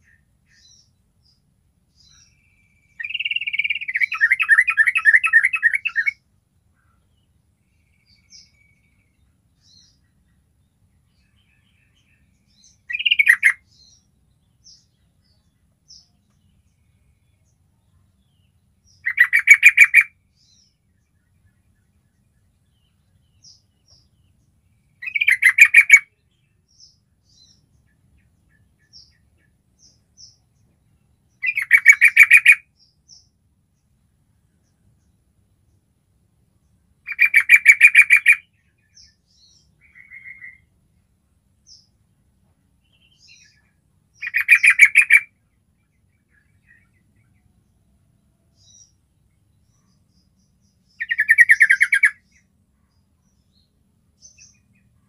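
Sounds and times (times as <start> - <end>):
bird song of rapid notes: 0.0 - 55.0.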